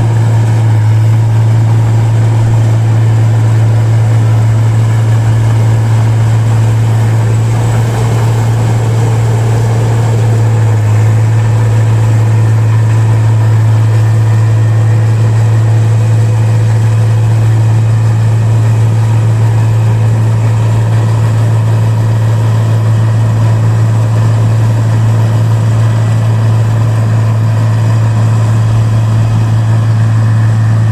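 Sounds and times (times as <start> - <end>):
machine running with low hum: 0.0 - 30.9.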